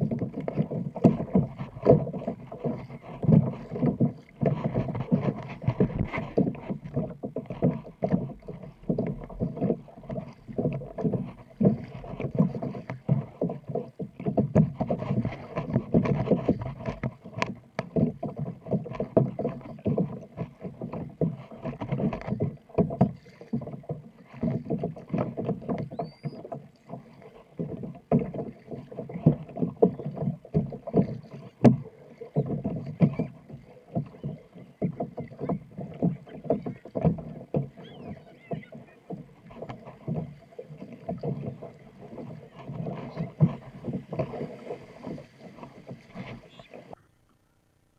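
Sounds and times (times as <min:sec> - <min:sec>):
water sloshing against kayak hull: 0:00.0 - 0:47.1
paddle blades splashing: 0:00.0 - 0:47.2.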